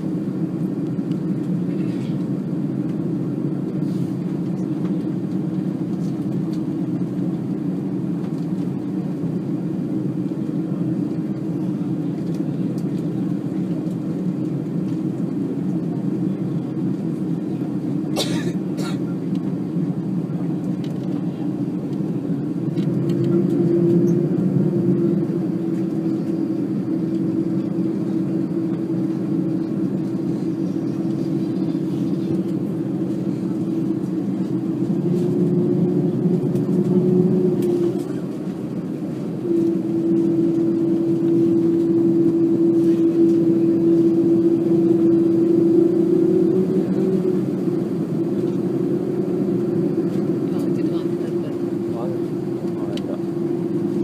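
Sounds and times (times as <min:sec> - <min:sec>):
jet engines humming: 0:00.0 - 0:54.0.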